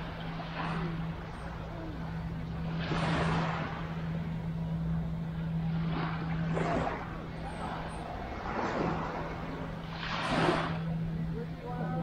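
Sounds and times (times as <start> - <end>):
low motor hum: 0.0 - 12.0
small waves washing onto beach: 0.0 - 12.0.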